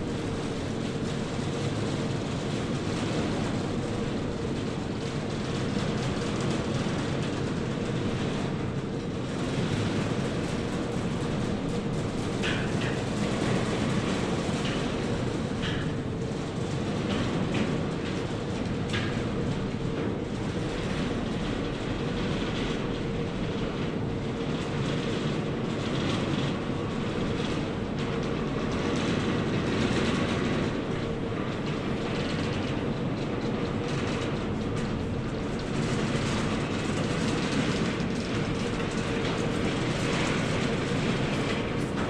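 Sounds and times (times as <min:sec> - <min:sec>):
conveyor belt rumbling: 0:00.0 - 0:42.0
faint constant hum: 0:00.0 - 0:42.0.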